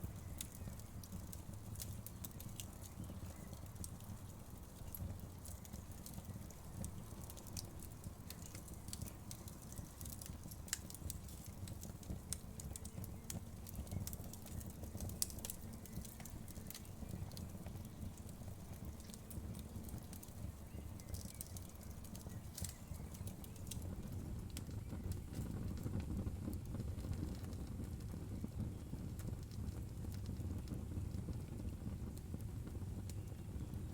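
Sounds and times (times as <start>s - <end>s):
fire pops and snaps: 0.0s - 33.9s
flames rushing: 0.0s - 33.9s.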